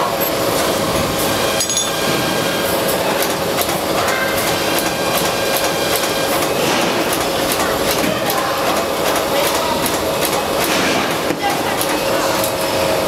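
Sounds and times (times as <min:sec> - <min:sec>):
machinery hum: 0:00.0 - 0:13.0
machinery clicking and clatter: 0:00.2 - 0:13.0.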